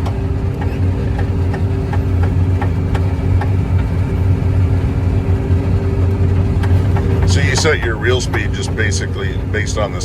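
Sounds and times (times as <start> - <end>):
combine engine and machinery drone: 0.0 - 10.0.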